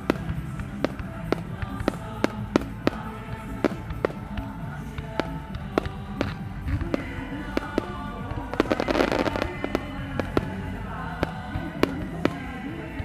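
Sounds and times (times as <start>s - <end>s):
background music: 0.0s - 13.0s
fireworks bangs: 0.0s - 13.0s
fireworks crackling burst: 0.0s - 13.0s.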